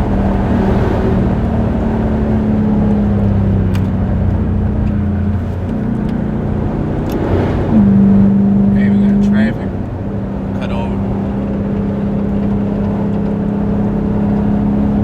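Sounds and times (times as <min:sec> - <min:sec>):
car engine droning at speed: 0:00.0 - 0:15.0.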